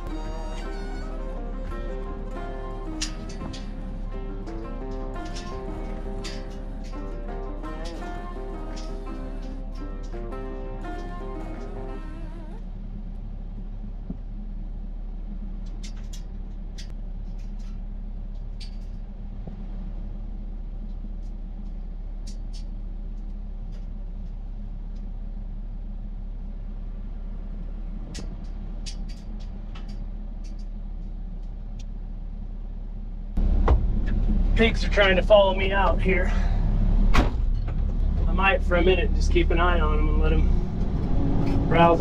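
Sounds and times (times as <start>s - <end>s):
earthmoving machine engine running: 0.0s - 42.0s.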